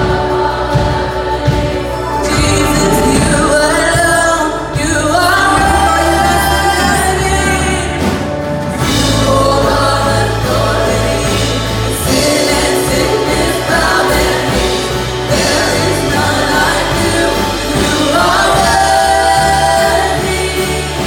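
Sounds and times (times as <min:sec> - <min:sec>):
woman leading singing: 0:00.0 - 0:08.2, 0:08.8 - 0:21.0
band with low bass notes: 0:00.0 - 0:21.0
many voices singing: 0:00.0 - 0:21.0.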